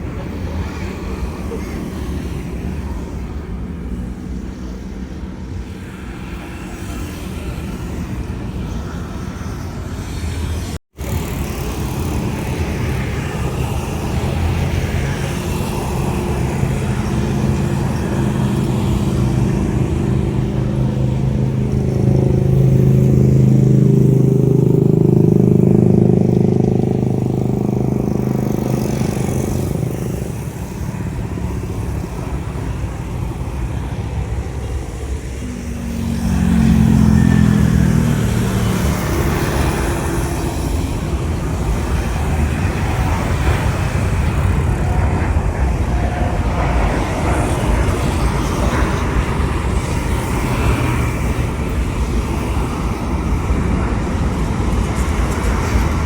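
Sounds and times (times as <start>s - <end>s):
jet airliner taking off: 0.0s - 56.0s.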